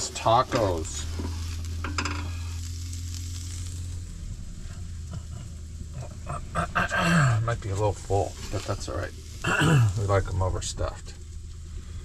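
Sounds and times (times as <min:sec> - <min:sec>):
food sizzling in a frying pan: 0:00.0 - 0:12.0
low hum: 0:00.0 - 0:12.0.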